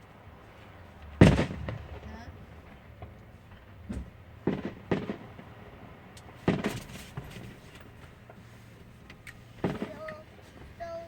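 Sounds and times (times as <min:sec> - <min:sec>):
muffled fireworks bangs: 0:00.0 - 0:11.0.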